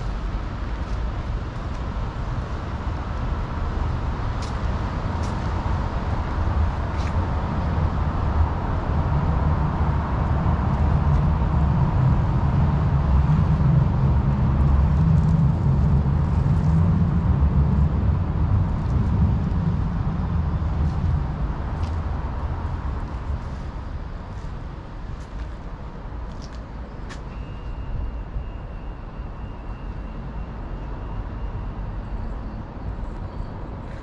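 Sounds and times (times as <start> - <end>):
vehicle engine rumble: 0.0 - 34.0.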